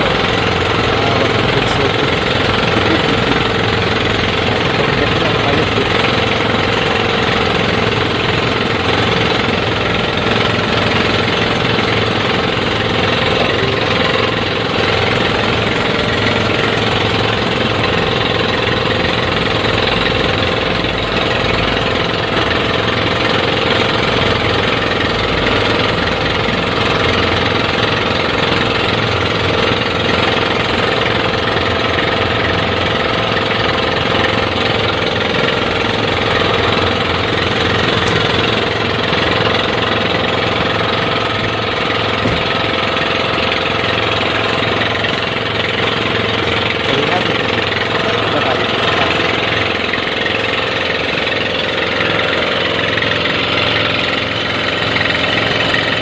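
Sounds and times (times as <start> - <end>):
boat engine rattling drone: 0.0 - 56.0.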